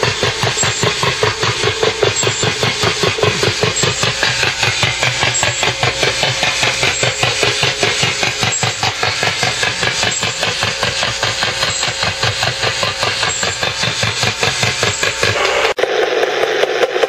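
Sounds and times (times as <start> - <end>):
rapid pulsed radio tapping: 0.0 - 17.0.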